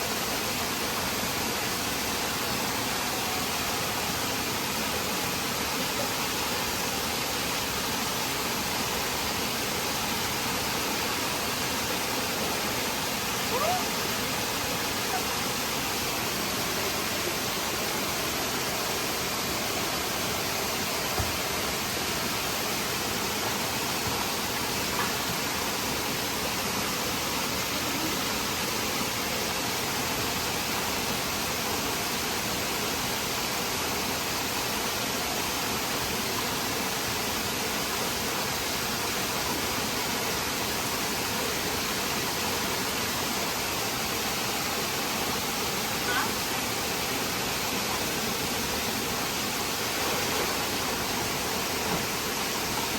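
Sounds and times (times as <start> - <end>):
waterfall and stream rushing: 0.0 - 52.9.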